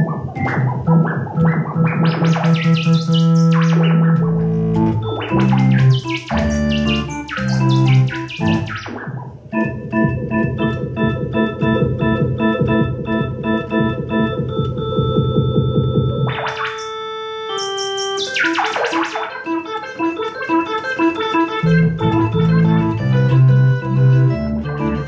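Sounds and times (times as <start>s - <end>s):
electric organ chords: 0.0s - 25.0s
fast bright organ runs: 0.0s - 25.0s.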